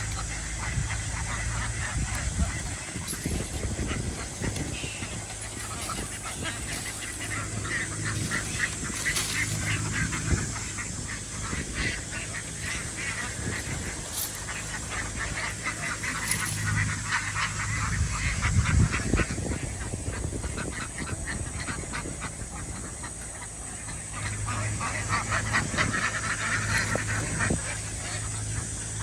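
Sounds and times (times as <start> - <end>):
ducks quacking: 0.0 - 29.0.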